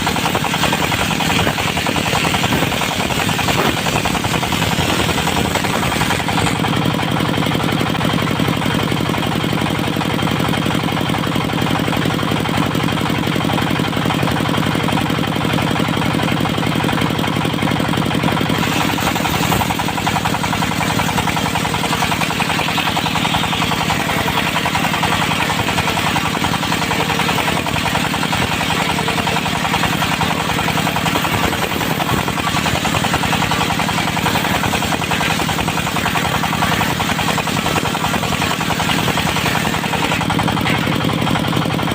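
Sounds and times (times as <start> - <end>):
diesel engine chugging: 0.0 - 41.9.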